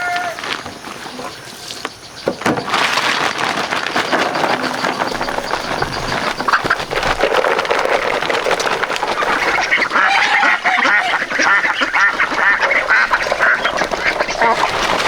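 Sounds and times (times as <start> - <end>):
flock of birds calling: 0.0 - 15.0.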